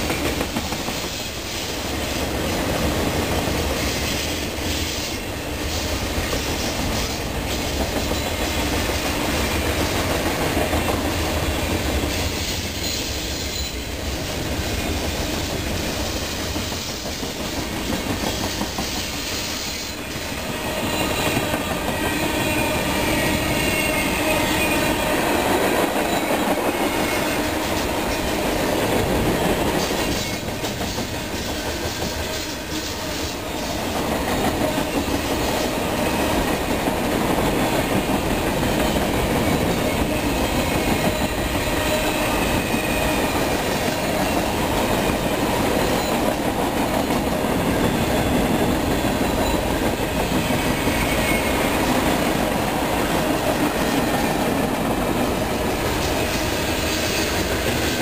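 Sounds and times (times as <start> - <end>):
clickety-clack over rail joints: 0.0 - 58.0
rumble of train wheels on rail: 0.0 - 58.0.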